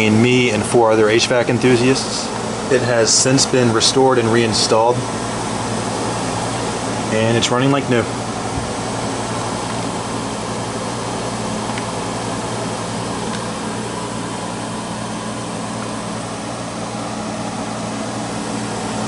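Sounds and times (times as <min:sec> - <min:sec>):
air conditioner fan humming: 0:00.0 - 0:19.0.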